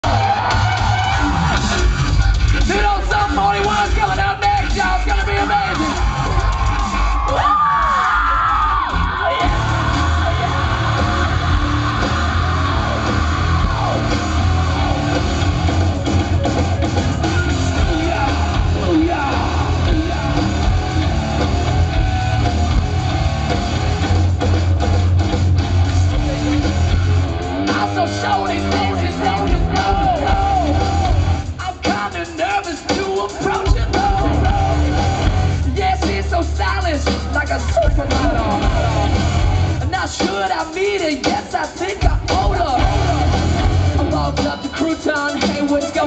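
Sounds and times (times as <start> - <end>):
singer yelling and singing: 0.0 - 24.0, 26.0 - 46.0
loud live rock band: 0.0 - 46.0.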